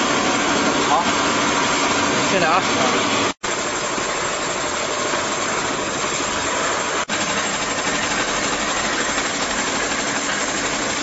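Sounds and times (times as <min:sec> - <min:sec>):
machinery running: 0:00.0 - 0:11.0.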